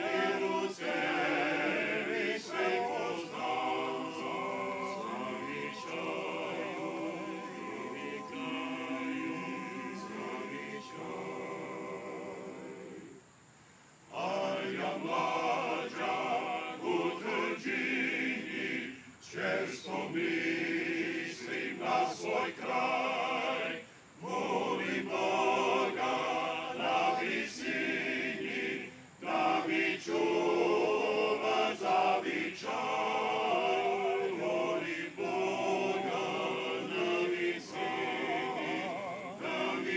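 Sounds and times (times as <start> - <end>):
men's choir singing: 0.0 - 13.2, 14.1 - 39.9.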